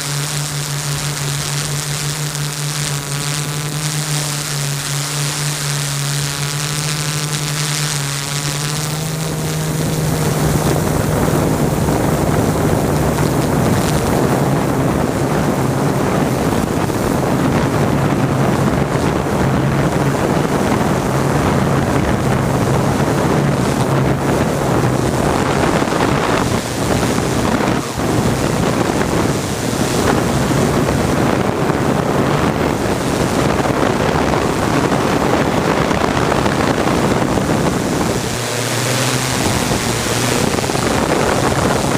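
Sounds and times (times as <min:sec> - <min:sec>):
drone propeller hum: 0:00.0 - 0:41.9
wind rush on microphone: 0:00.0 - 0:41.9.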